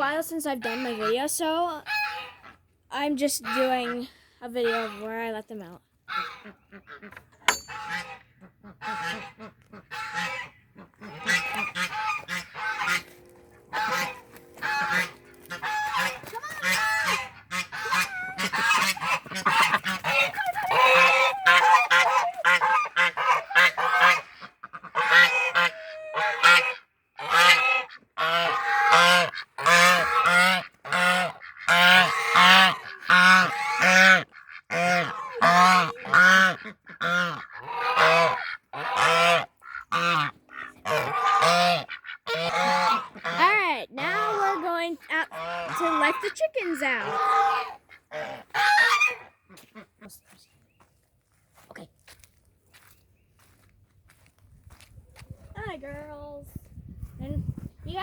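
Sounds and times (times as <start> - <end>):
geese honking: 0.4 - 2.7, 3.3 - 5.1, 6.1 - 50.3.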